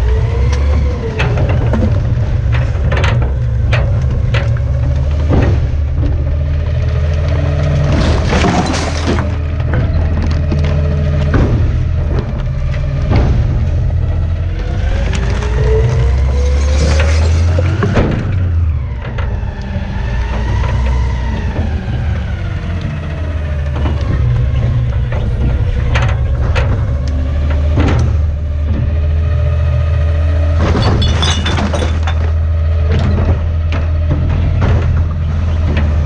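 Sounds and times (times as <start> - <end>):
truck engine whining under load: 0.0 - 36.0
trash cracking as crushed: 0.2 - 36.0.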